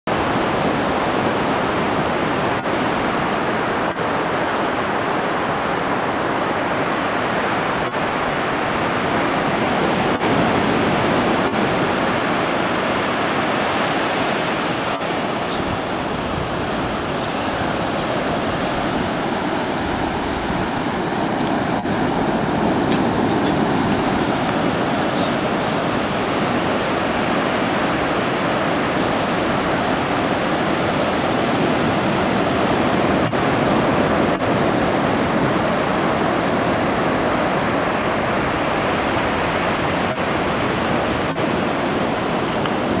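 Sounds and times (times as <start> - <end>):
small waves breaking on shore: 0.1 - 43.0.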